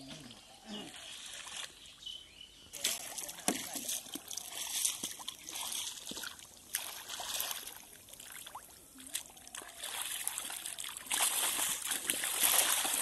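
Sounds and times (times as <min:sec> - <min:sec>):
muddy water splashing: 0:00.0 - 0:02.0, 0:02.7 - 0:13.0.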